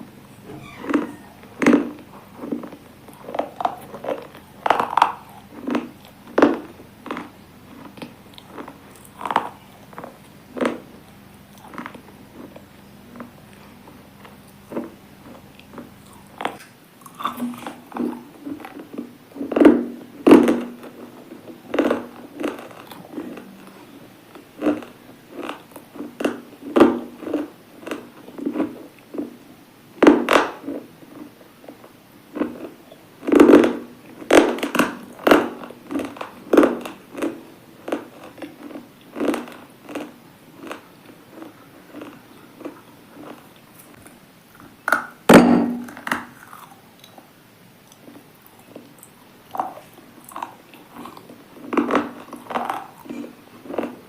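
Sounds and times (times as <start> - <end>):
person crunching brittle food: 0.8 - 19.6, 20.3 - 29.2, 30.6 - 45.0, 45.8 - 47.2, 47.8 - 54.0.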